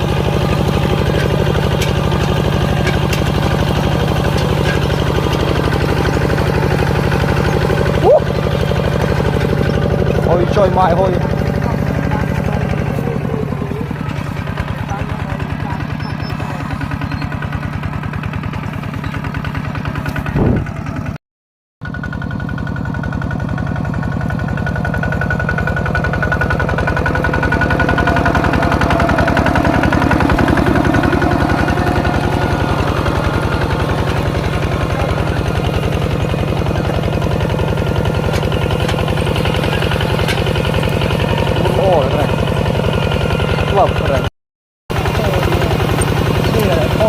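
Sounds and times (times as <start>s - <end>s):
tractor engine knocking: 0.0s - 21.2s, 21.8s - 44.3s, 44.9s - 47.0s.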